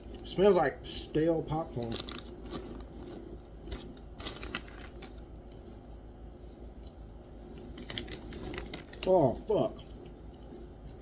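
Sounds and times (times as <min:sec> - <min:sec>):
snack bag crinkling: 0:01.5 - 0:10.4.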